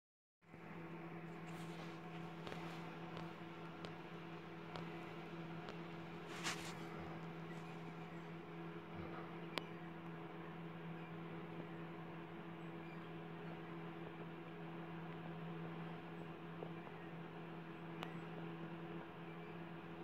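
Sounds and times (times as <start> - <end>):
faint low hum with hiss: 0.5 - 20.0.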